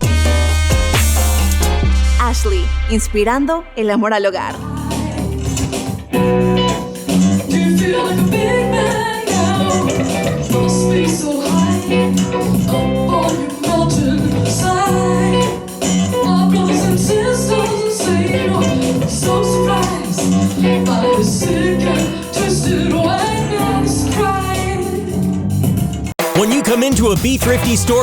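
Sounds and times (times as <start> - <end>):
song with guitar bass and singing: 4.5 - 25.8, 26.4 - 28.0.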